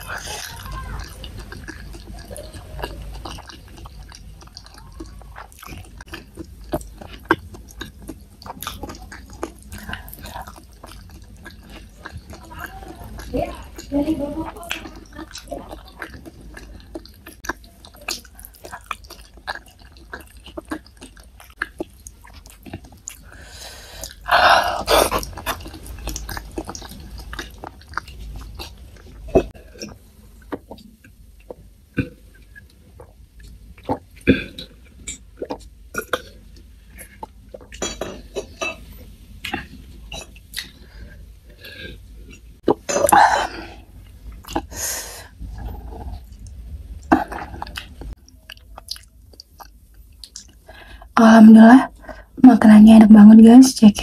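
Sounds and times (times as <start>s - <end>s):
chewing and wet mouth smacks: 0.0s - 13.9s, 14.5s - 23.4s, 24.0s - 38.7s, 39.4s - 40.9s, 45.6s - 50.7s.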